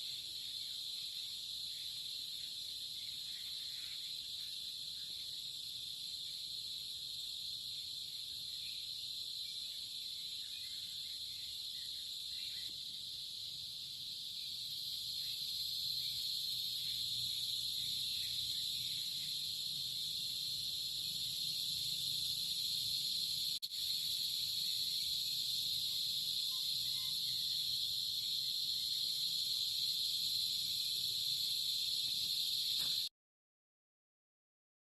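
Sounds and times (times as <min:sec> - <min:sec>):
insects chorus: 0:00.0 - 0:33.1.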